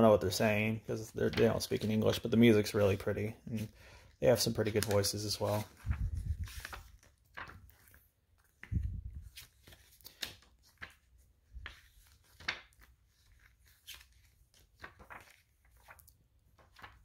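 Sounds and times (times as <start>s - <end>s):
paper pages rustling: 1.0s - 17.0s.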